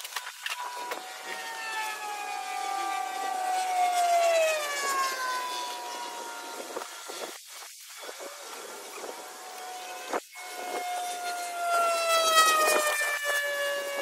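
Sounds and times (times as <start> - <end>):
passing engine whine: 0.1 - 14.0.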